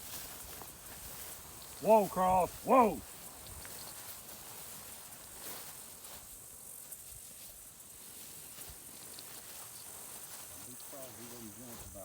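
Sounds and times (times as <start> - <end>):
faint rustles and ticks: 0.0 - 2.0, 3.0 - 12.0
high-pitched hiss: 0.0 - 12.0.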